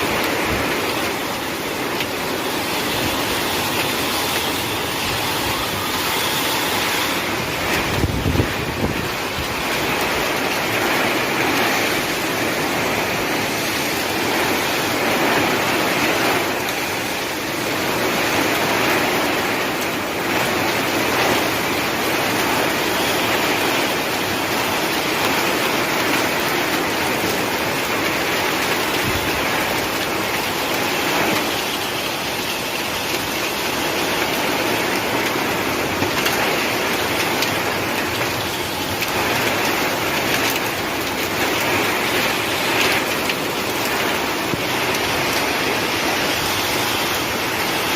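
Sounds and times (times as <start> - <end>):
heavy rain and hail: 0.0 - 47.9.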